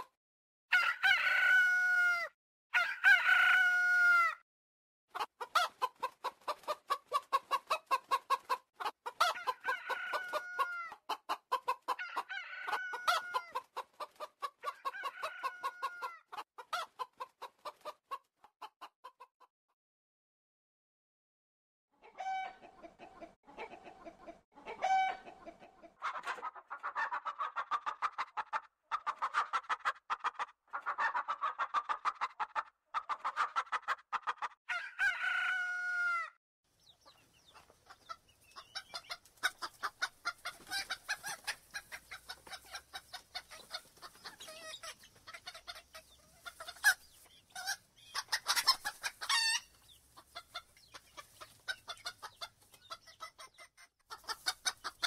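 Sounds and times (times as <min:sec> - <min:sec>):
chickens clucking: 0:05.1 - 0:19.4, 0:22.0 - 0:36.1, 0:36.8 - 0:55.0.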